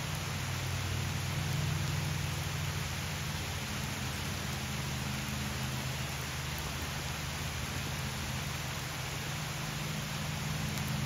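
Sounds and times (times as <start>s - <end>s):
heavy rain on water and leaves: 0.0s - 11.0s
low steady hum: 0.0s - 11.0s.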